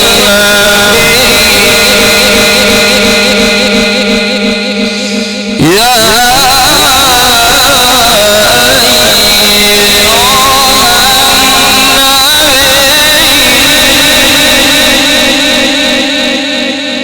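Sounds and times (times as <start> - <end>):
high whine: 0.0 - 17.0
person chanting over loudspeaker: 0.0 - 17.0.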